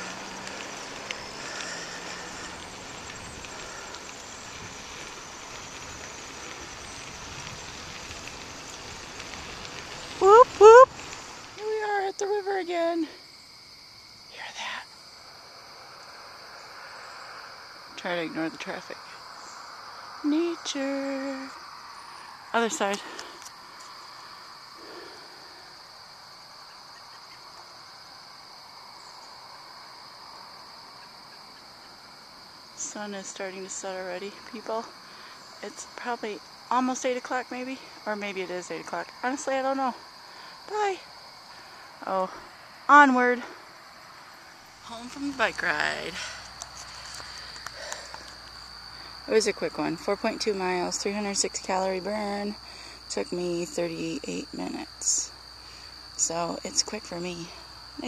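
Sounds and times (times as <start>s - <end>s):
distant traffic hum: 0.0s - 13.2s, 14.4s - 58.0s
wind and road noise: 0.0s - 53.1s
insect chorus drone: 0.0s - 58.0s.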